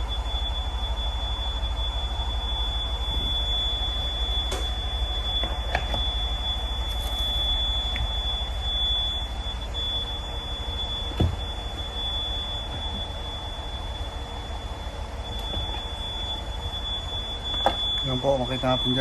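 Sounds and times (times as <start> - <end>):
diesel engine running: 0.0 - 19.0
high-pitched whine: 0.0 - 19.0.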